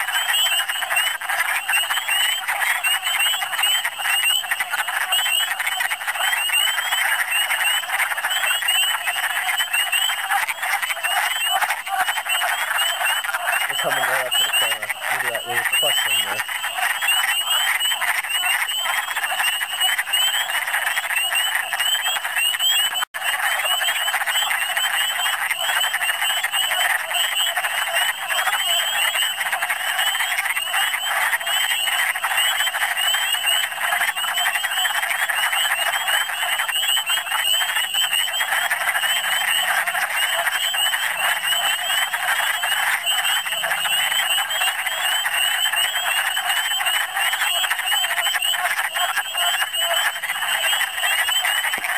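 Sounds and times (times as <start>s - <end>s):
frogs chorus calling: 0.0s - 51.9s.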